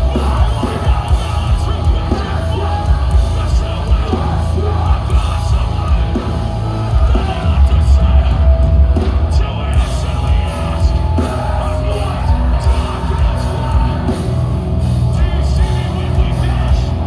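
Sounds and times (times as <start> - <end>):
bass: 0.0 - 17.0
distorted guitars: 0.0 - 17.0
drums: 0.0 - 17.0.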